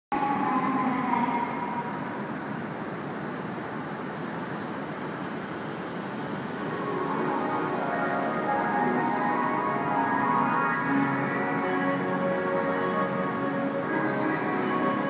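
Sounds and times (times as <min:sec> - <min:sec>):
train running noise: 0:00.1 - 0:15.0.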